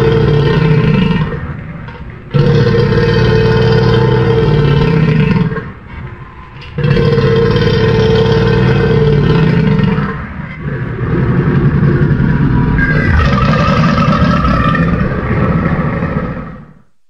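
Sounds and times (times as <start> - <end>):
crocodile growling: 0.0 - 1.6, 2.3 - 5.8, 6.8 - 16.8.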